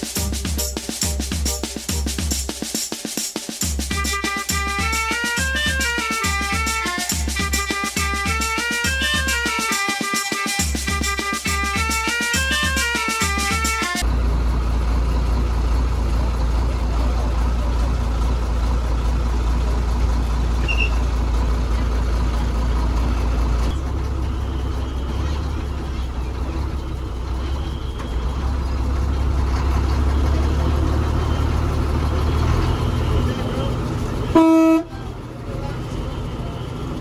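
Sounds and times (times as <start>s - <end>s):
bus diesel engine rumbling: 3.8s - 37.0s.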